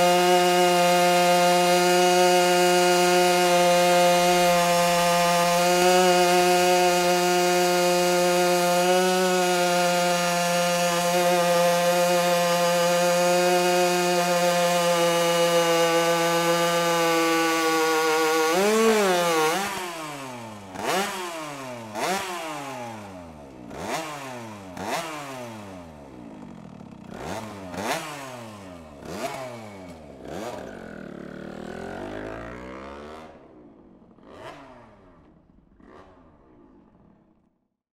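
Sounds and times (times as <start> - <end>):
moped engine revving: 0.0 - 37.5.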